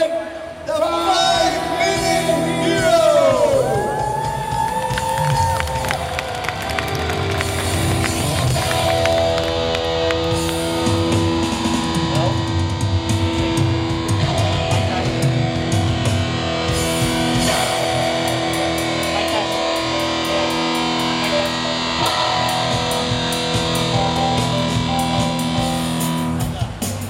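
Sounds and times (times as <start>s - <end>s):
electric guitar sustained chords: 1.6s - 26.8s.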